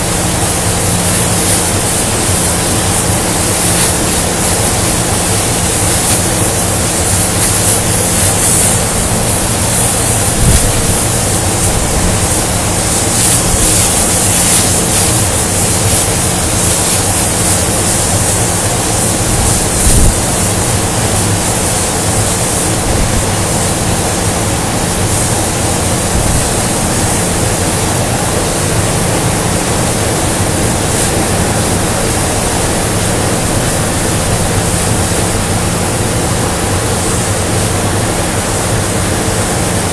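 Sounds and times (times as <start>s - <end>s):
low electrical hum: 0.0s - 39.9s
machinery hissing roar: 0.0s - 39.9s.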